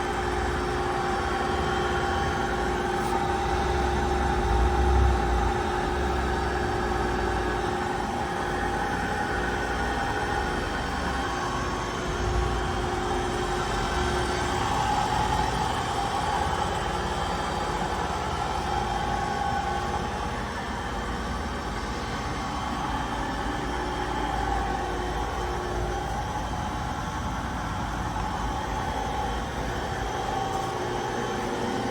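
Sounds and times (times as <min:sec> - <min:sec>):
lathe running: 0:00.0 - 0:31.9.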